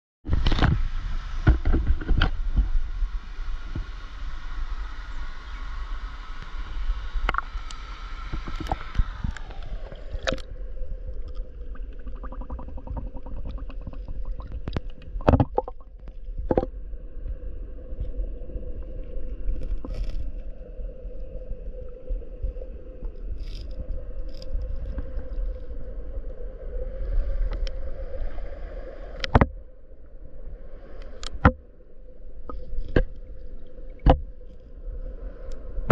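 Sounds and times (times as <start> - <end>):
underwater rumble and gurgle: 0.2 - 35.9.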